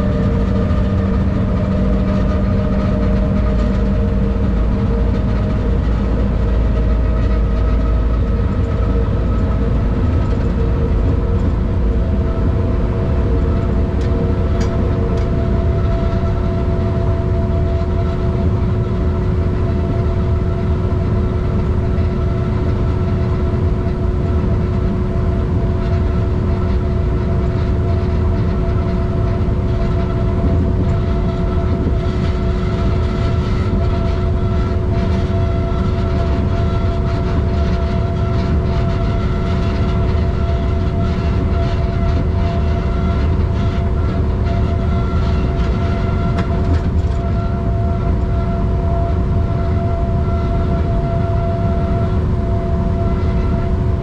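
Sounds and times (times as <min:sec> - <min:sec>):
steady hum tones: 0:00.0 - 0:54.0
train rumbling along track: 0:00.0 - 0:54.0.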